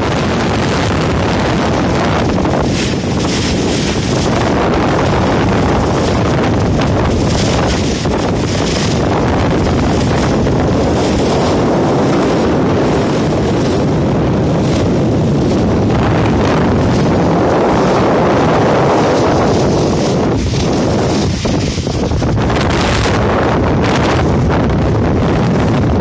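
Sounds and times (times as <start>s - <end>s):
water rushing past hull: 0.0s - 26.0s
wind buffeting microphone: 0.0s - 26.0s.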